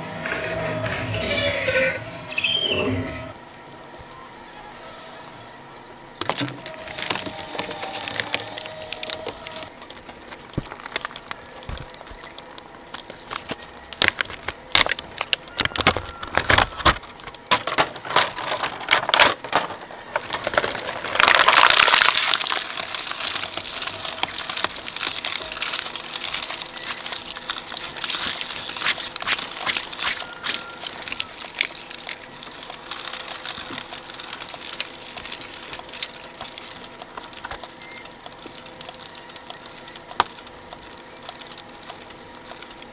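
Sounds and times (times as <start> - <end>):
shredder crunching plastic: 3.3 - 42.9.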